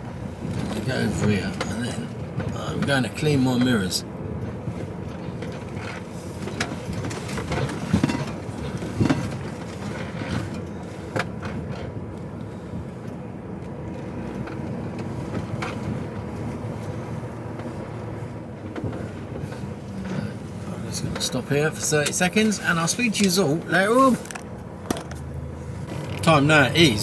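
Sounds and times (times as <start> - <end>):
diesel engine low hum: 0.0 - 27.0
knocks and rattles in cab: 0.0 - 27.0
road rumble: 0.0 - 27.0.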